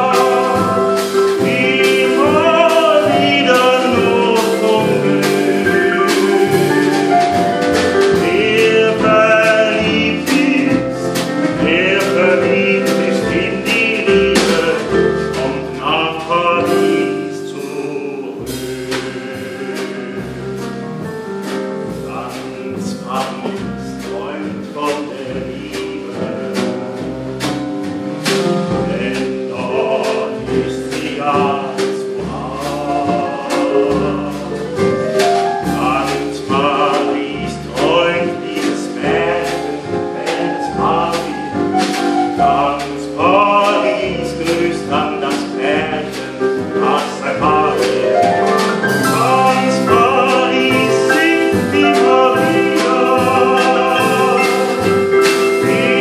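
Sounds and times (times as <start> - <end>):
man singing wordlessly: 0.0 - 27.5, 28.2 - 56.0
double bass: 0.0 - 56.0
drum kit with cymbal strokes: 0.0 - 56.0
stage piano: 0.0 - 56.0.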